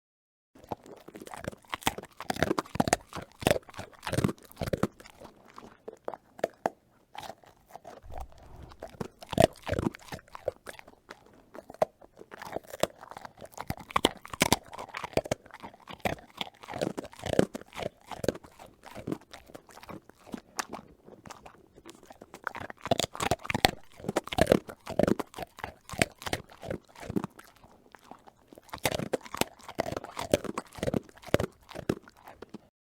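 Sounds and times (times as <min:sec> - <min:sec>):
dog crunching a biscuit: 0:00.6 - 0:32.7.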